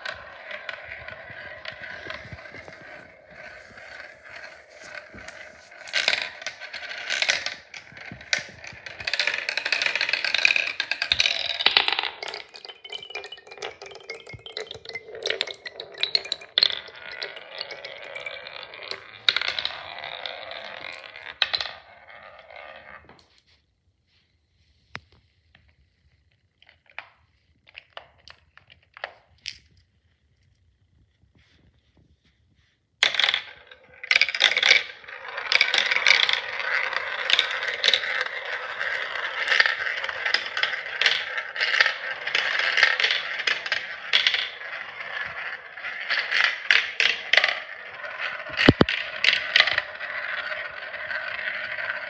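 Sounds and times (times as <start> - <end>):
marbles clinking and clacking: 0.0 - 23.2, 26.4 - 30.8, 33.0 - 52.0
marbles rolling through marble run: 0.0 - 23.4, 25.6 - 32.1, 33.0 - 52.0.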